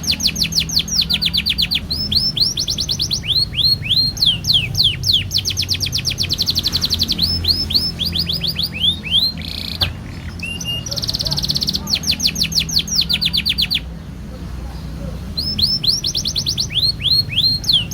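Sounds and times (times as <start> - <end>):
canary singing trills: 0.0 - 17.9.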